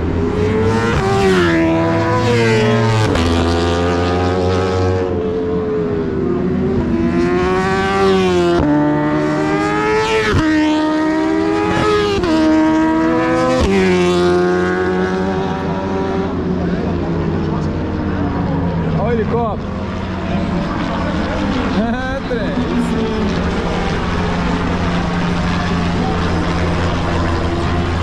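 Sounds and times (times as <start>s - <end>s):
motorcycles racing at full throttle: 0.0s - 28.0s.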